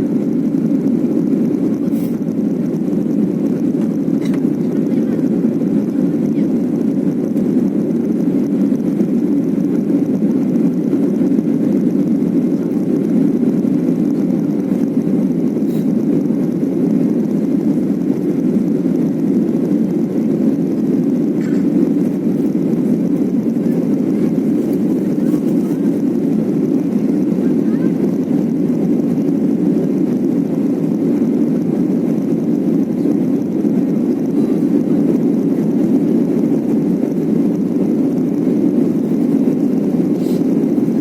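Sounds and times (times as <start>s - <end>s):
jet engines rumbling in cabin: 0.0s - 41.0s.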